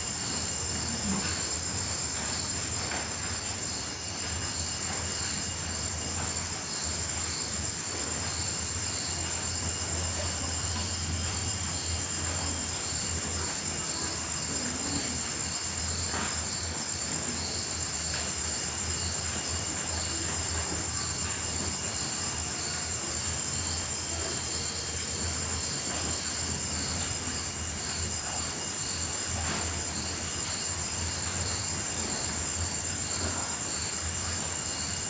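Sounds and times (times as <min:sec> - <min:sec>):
crickets shrilling: 0:00.0 - 0:35.0.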